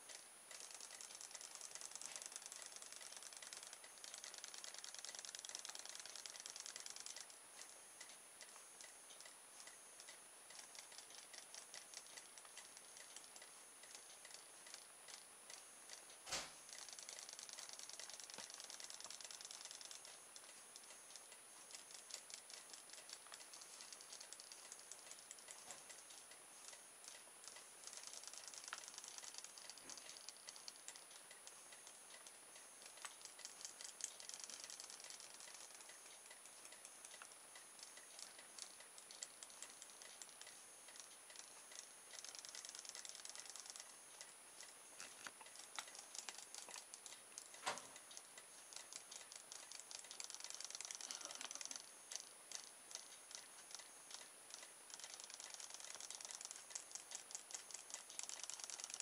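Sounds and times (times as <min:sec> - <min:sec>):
toy motor ticking and rattling: 0:00.0 - 0:59.0.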